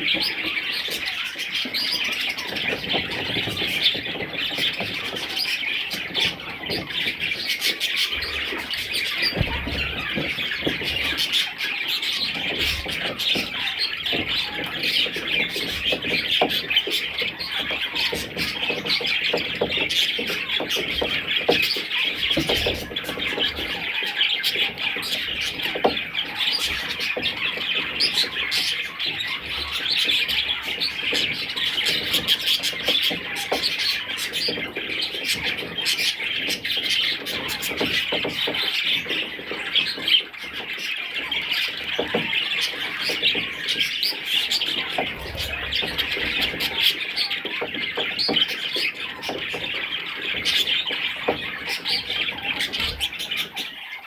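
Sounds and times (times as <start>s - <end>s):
budgerigars chattering: 0.0s - 54.0s.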